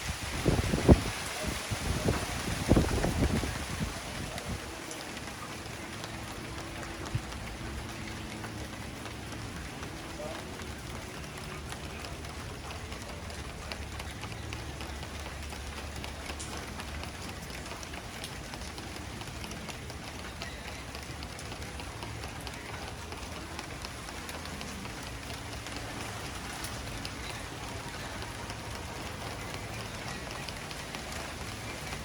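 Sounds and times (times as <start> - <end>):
rain drops pattering: 0.0 - 32.0.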